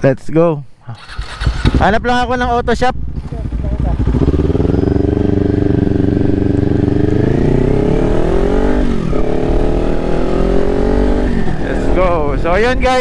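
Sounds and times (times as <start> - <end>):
motorcycle engine accelerating: 0.9 - 13.0.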